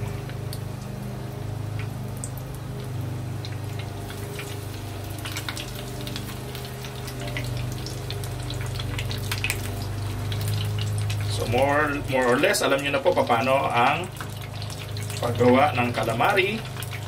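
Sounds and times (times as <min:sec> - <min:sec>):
food sizzling in hot oil: 0:00.0 - 0:17.0
lawn mower engine hum: 0:00.0 - 0:17.0.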